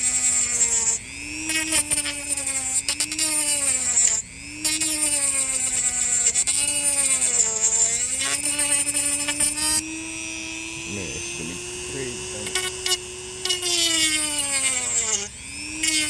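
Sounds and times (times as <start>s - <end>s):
rotary tool cutting gourd shell: 0.0s - 16.0s.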